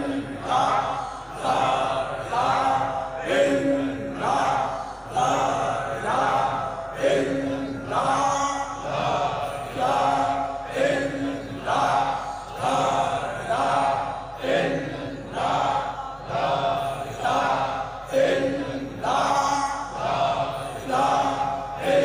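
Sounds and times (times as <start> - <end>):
crowd of men chanting: 0.0 - 22.0.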